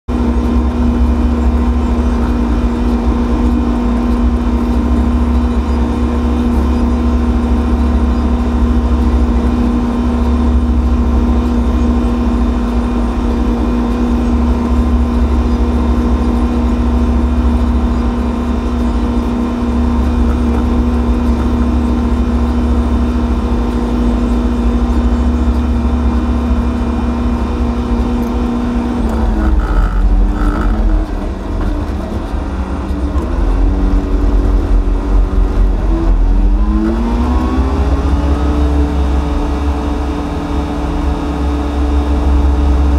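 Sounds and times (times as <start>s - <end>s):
tractor engine drone: 0.0s - 42.9s.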